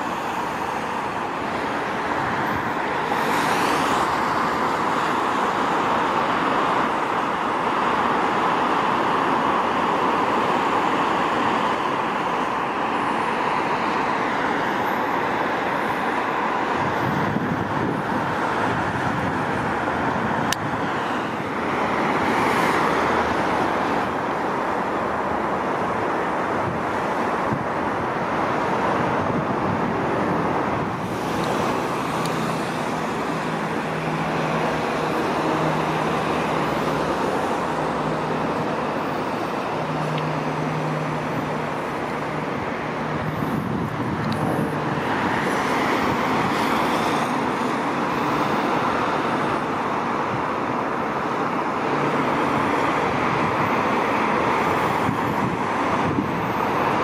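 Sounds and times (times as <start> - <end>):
passing cars and trucks: 0.0 - 57.0.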